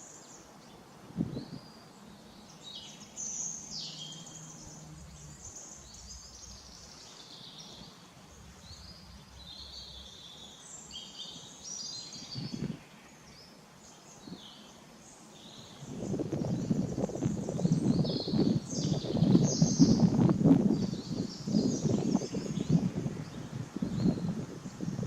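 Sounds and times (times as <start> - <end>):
small birds singing and chirping: 0.0 - 25.0.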